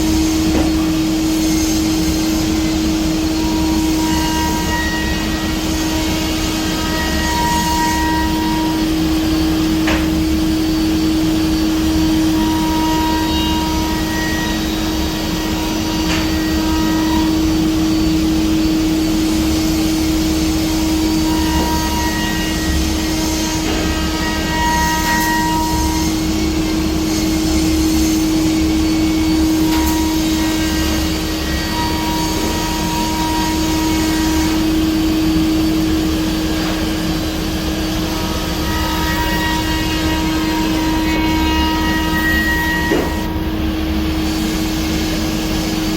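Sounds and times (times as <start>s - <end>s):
woodworking router humming: 0.0s - 45.9s.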